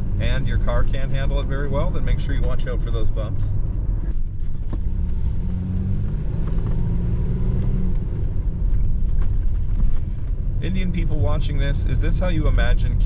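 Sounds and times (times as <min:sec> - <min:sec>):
vehicle rumble inside cabin: 0:00.0 - 0:13.0.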